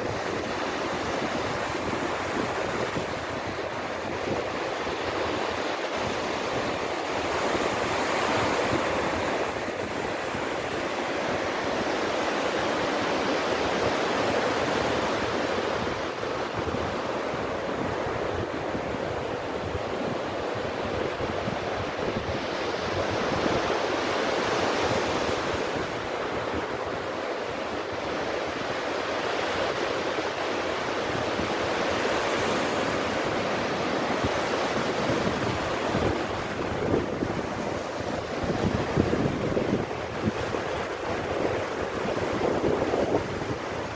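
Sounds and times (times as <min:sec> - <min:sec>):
small surf on a sandy beach: 0:00.0 - 0:43.9.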